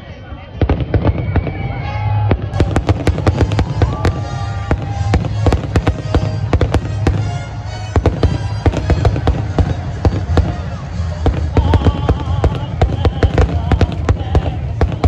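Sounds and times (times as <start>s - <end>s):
fireworks bangs and crackling: 0.0s - 15.0s
music playing: 2.6s - 15.0s.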